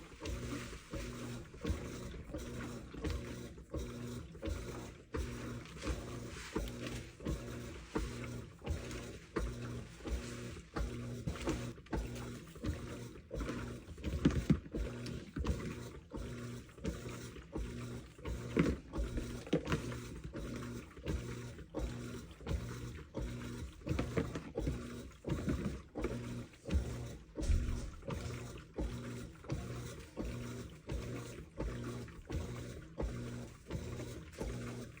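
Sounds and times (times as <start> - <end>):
faint motor hum: 0.0 - 35.0
laundry sloshing in drum: 0.0 - 35.0.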